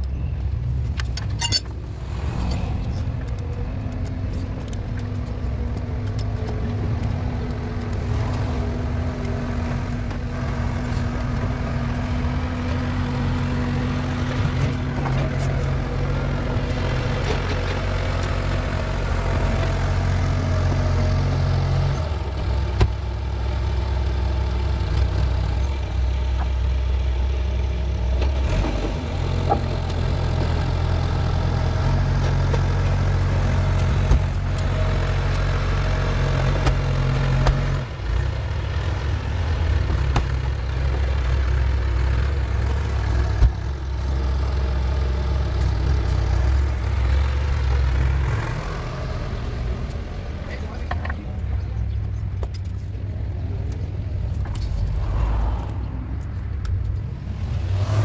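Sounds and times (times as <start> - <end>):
low mechanical drone: 0.0 - 58.0.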